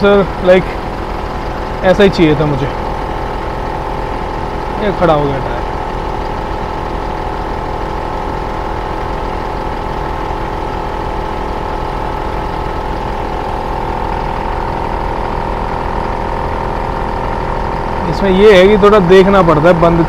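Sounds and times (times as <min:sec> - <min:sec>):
air compressor humming: 0:00.0 - 0:20.0
car engine idling: 0:00.0 - 0:20.0.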